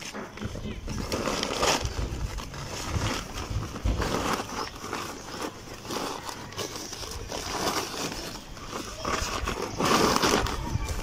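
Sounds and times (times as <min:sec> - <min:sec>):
plastic sack rustling: 0:00.0 - 0:11.0.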